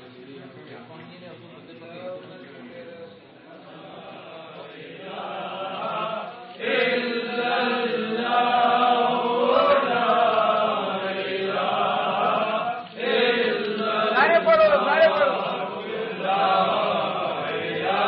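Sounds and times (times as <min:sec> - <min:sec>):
men chanting together: 0:03.4 - 0:18.0.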